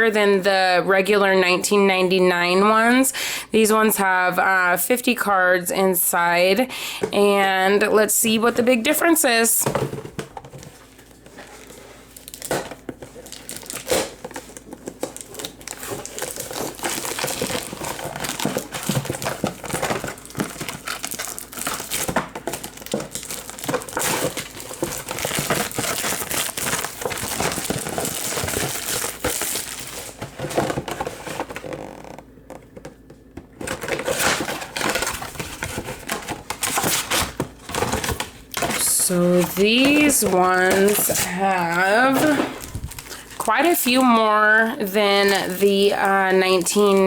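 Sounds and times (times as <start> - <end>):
plastic packaging crinkling: 8.3 - 47.0.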